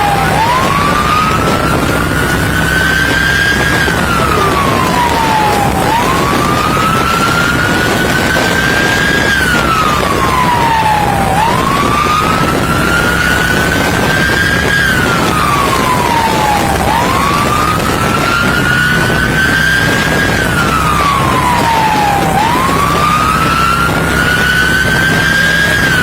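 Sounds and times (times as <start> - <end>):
police siren wailing: 0.0 - 26.0
wind and road noise: 0.0 - 26.0.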